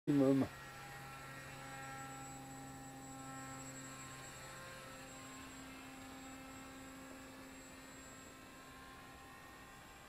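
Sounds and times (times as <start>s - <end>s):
faint steady motor hum: 0.1s - 10.0s.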